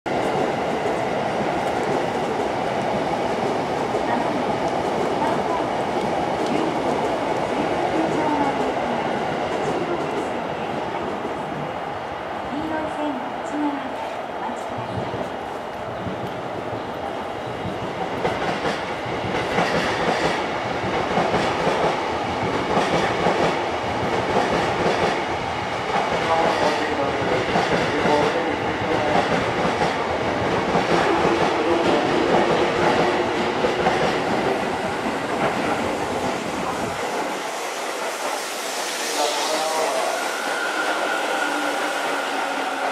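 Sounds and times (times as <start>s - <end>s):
electric train running slowly: 0.2s - 42.9s.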